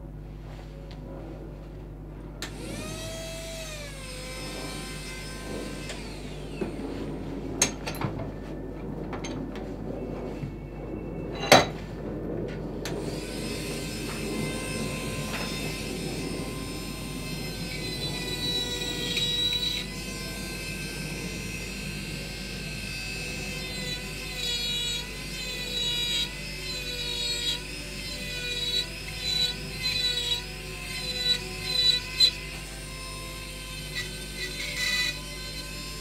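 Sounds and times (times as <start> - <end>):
rotary carving tool whining: 2.4 - 8.4, 12.8 - 36.0.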